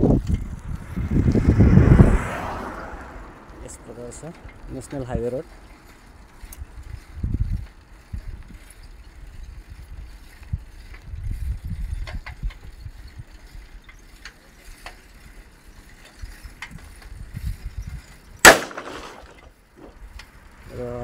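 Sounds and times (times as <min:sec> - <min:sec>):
wind and handling rumble: 0:00.0 - 0:21.0.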